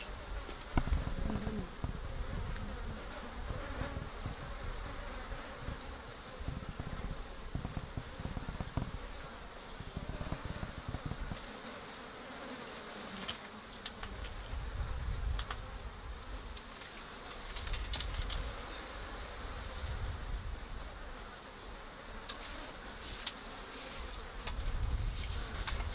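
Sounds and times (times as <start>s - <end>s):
insects buzzing: 0.0s - 25.9s.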